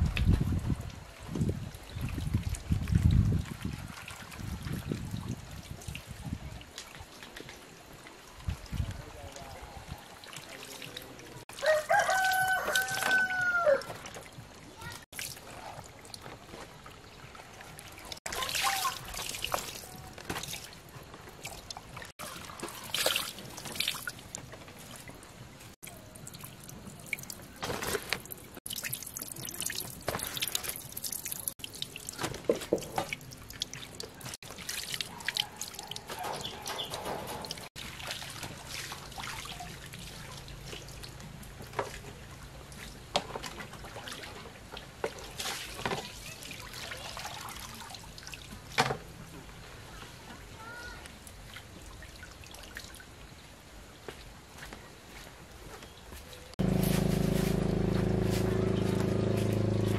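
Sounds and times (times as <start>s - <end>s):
water dripping and splashing: 0.0s - 50.1s, 51.0s - 55.6s, 56.6s - 59.9s.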